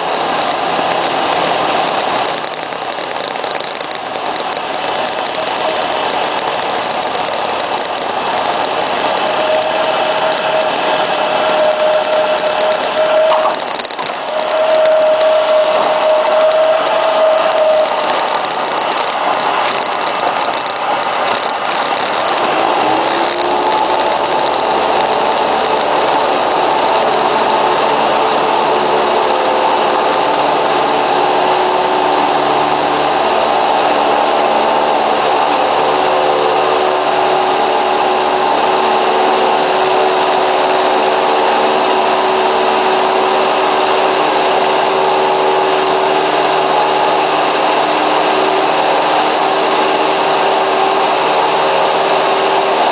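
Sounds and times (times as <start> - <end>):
propeller plane engine running: 0.0 - 52.9.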